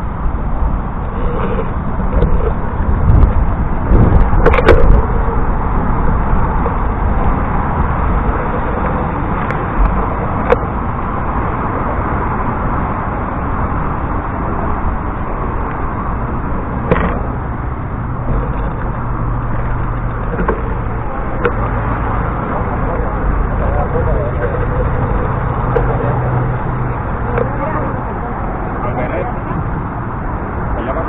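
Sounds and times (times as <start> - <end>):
road noise: 0.0 - 31.0
rushing wind: 0.0 - 31.0.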